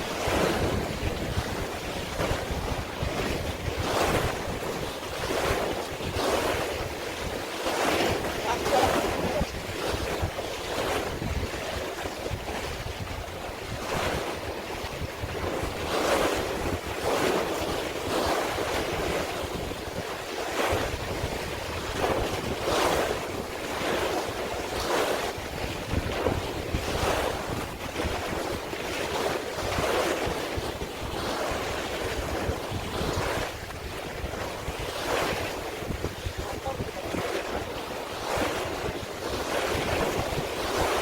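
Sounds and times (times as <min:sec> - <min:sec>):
sea waves washing and splashing: 0:00.0 - 0:41.0
wind buffeting microphone: 0:00.0 - 0:41.0.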